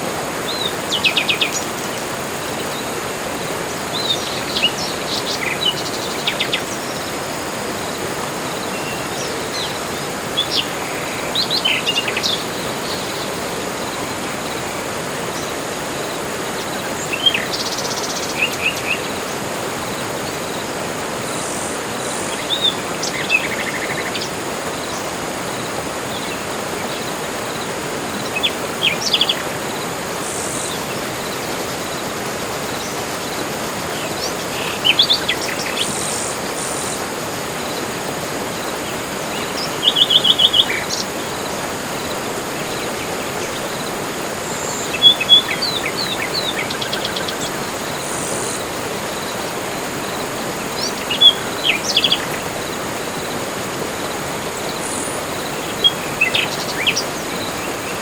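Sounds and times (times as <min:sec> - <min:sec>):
songbirds calling: 0:00.0 - 0:58.0
steady background hiss: 0:00.0 - 0:58.0.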